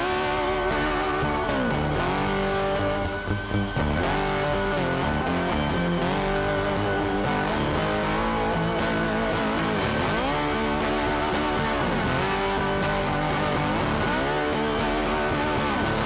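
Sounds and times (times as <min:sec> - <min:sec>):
guitar with bending notes: 0:00.0 - 0:16.0.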